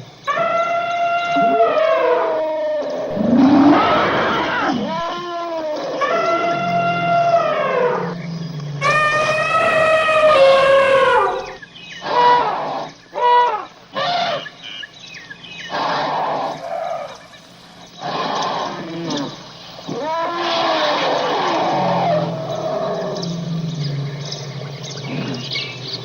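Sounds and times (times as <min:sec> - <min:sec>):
animal calls: 0:00.0 - 0:26.0
rough noisy animal cries: 0:00.2 - 0:26.0.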